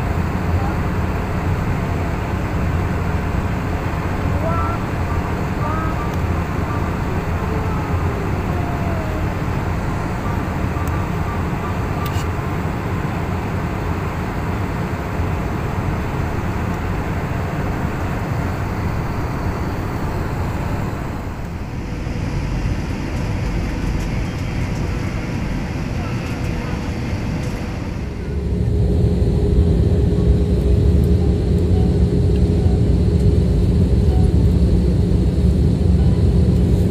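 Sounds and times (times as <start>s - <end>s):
low engine rumble: 0.0s - 36.9s.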